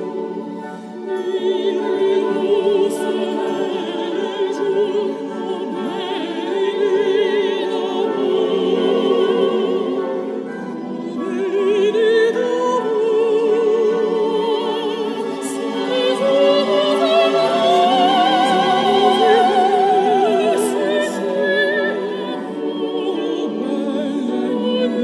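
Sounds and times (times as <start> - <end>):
classical accompaniment: 0.0 - 25.0
opera singer with wide vibrato: 0.0 - 25.0.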